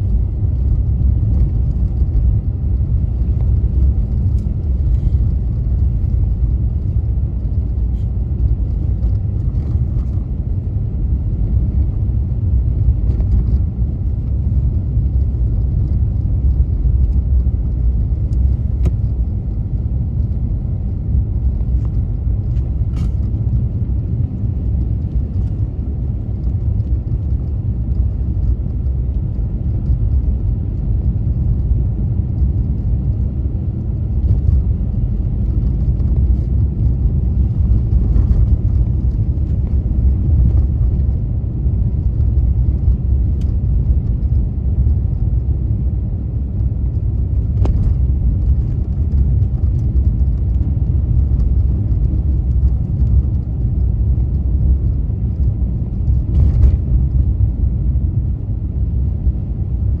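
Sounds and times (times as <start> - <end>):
car driving on snowy road: 0.0 - 60.0.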